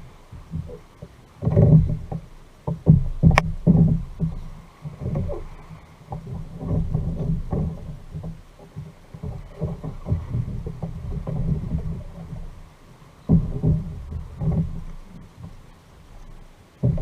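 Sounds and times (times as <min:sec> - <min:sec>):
low thumps of waves on hull: 0:00.0 - 0:17.0
water splashing against kayak: 0:00.0 - 0:17.0.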